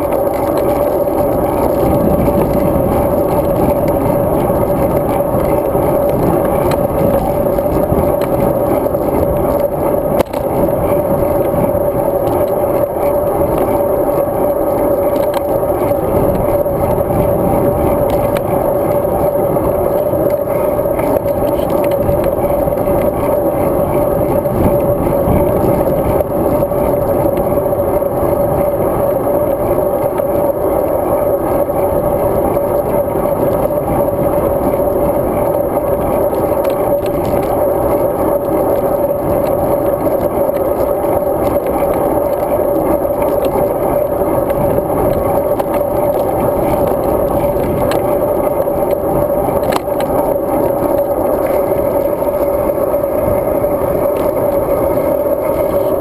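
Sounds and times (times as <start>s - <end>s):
constant hum: 0.0s - 56.0s
tyre and road noise: 0.0s - 56.0s.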